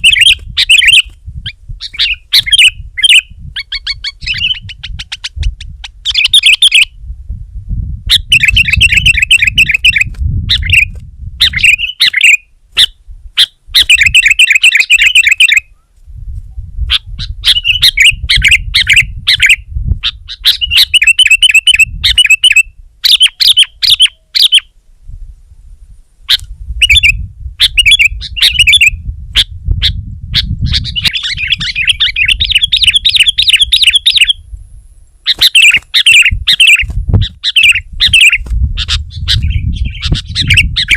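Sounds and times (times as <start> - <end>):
bulbul singing and chattering: 0.0 - 1.2, 1.8 - 6.9, 8.1 - 15.6, 16.9 - 24.6, 26.8 - 28.9, 30.4 - 34.4, 35.2 - 40.9.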